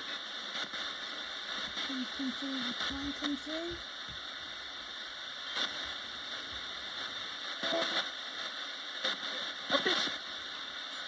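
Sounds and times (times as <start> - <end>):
crackly static bursts: 0.0 - 11.0
radio static hiss: 0.0 - 11.0.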